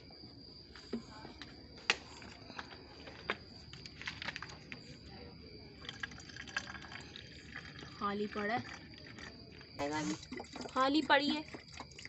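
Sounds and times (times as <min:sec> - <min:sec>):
faint steady high tone: 0:00.0 - 0:12.0.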